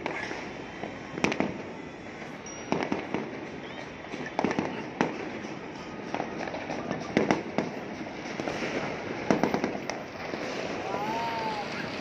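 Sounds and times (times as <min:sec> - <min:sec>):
fireworks bangs and pops: 0:00.0 - 0:12.0
continuous din: 0:00.8 - 0:12.0.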